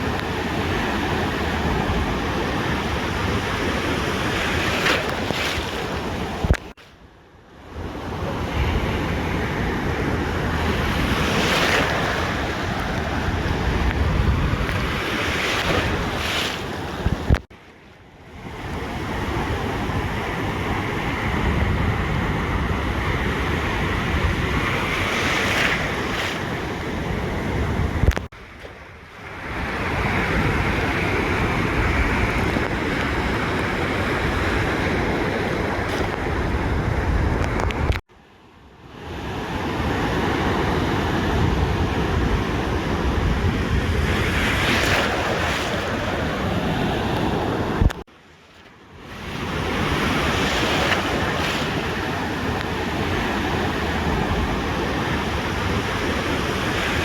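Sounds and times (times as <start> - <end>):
ocean surf breaking: 0.0 - 7.0, 7.7 - 17.5, 18.3 - 38.0, 38.9 - 48.1, 49.0 - 57.0
wind on microphone: 7.7 - 17.5, 18.3 - 38.0, 39.2 - 48.1, 49.0 - 57.0.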